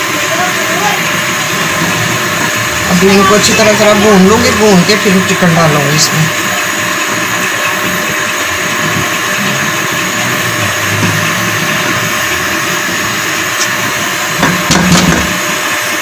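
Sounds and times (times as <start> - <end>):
food frying hiss: 0.0 - 16.0.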